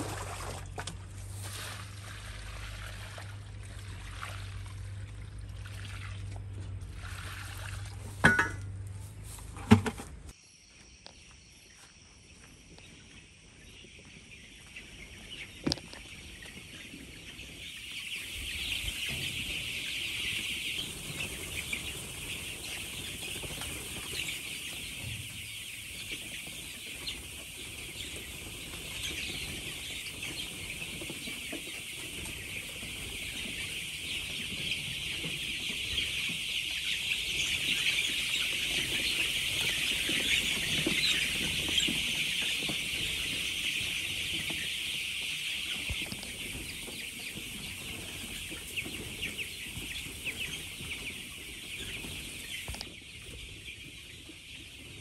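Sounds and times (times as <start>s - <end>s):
chicks peeping: 0.1s - 55.0s.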